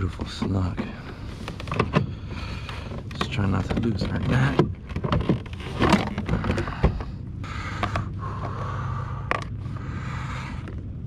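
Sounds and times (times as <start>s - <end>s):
hard plastic creaking: 0.1s - 8.6s, 9.2s - 9.6s.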